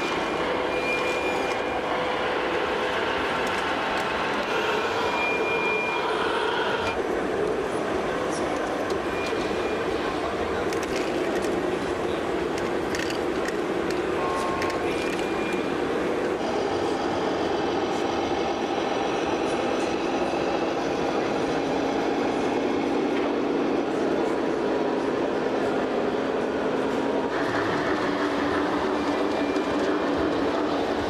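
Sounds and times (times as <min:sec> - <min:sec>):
exhibition hall hum: 0:00.0 - 0:31.0.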